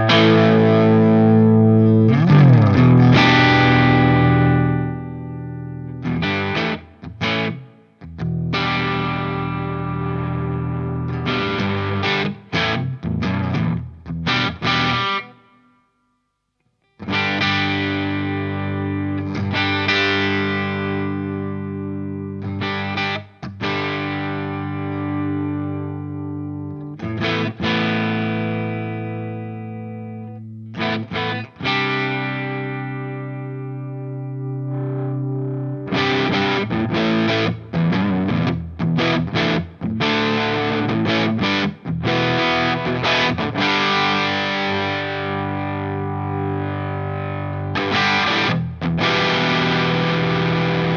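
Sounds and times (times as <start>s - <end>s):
overdriven electric guitar chords: 0.0s - 16.2s, 16.8s - 50.9s.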